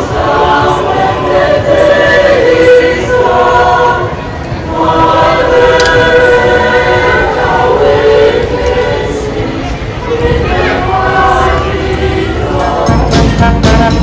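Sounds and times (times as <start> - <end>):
choir singing through speakers: 0.0 - 14.0.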